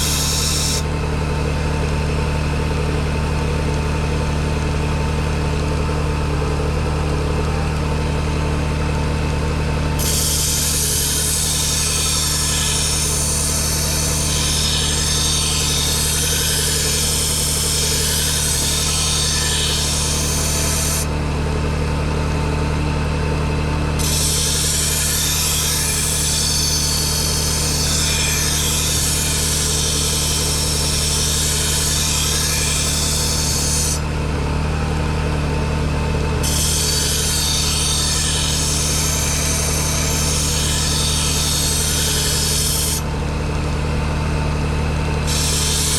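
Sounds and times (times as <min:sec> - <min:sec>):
belt sander motor hum: 0:00.0 - 0:05.5, 0:06.1 - 0:45.9.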